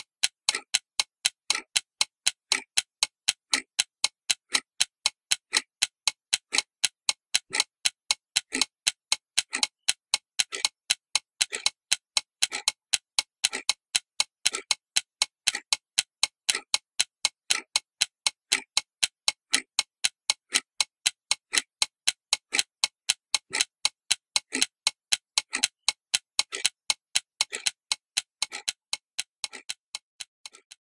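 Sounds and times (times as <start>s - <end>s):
clock ticking: 0.0s - 30.9s.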